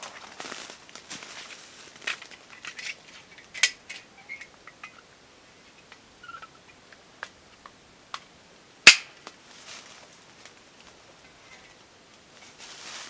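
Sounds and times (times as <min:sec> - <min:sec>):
twigs and leaves crackling underfoot: 0:00.0 - 0:08.2, 0:08.9 - 0:13.0.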